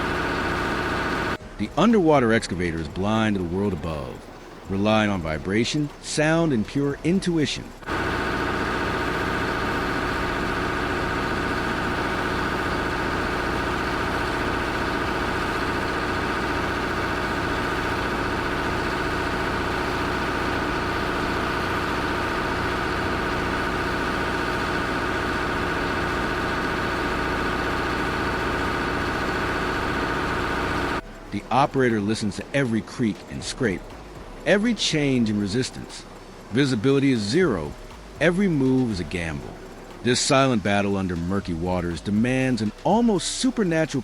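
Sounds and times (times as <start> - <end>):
engine humming steadily: 0.0 - 44.0.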